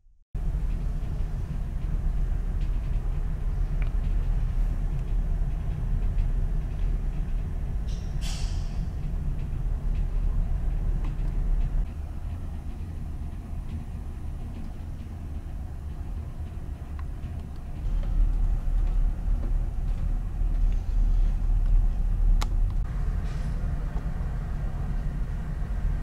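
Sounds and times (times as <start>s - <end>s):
ship engine low rumble: 0.4s - 26.0s.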